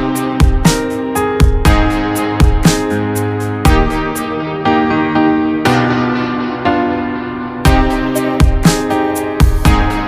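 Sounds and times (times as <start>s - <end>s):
keyboard melody over steady beat: 0.0s - 10.0s.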